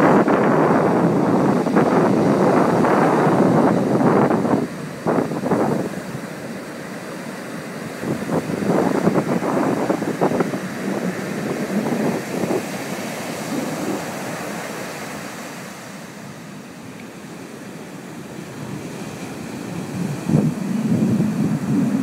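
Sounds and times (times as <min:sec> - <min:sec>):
wind buffeting microphone: 0:00.0 - 0:16.4, 0:18.1 - 0:22.0
ocean surf washing on sand: 0:00.0 - 0:22.0.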